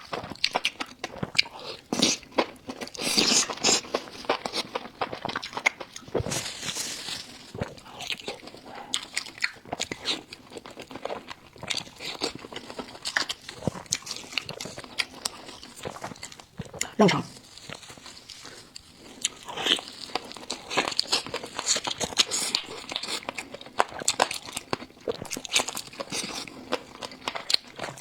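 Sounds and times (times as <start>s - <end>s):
chewing crunchy food: 0.0s - 28.0s.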